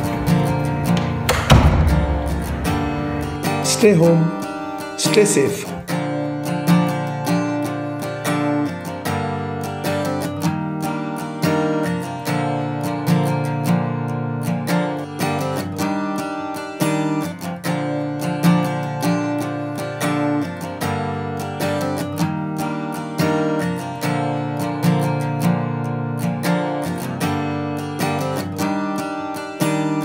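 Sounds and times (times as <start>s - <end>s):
strummed acoustic guitar chords: 0.0s - 30.0s.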